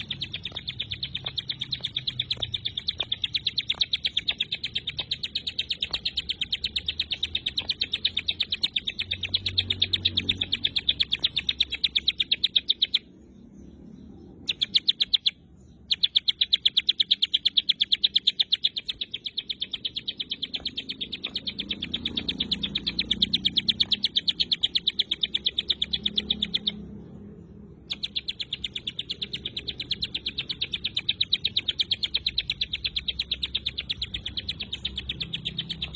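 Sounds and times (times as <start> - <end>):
bird rapid high call: 0.0 - 13.1, 14.4 - 26.9, 27.8 - 35.9.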